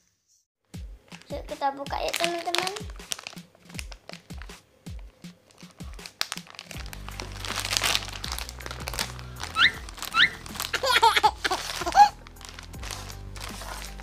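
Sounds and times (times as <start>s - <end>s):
background music: 0.7s - 14.0s
plastic bag crinkling: 1.1s - 14.0s.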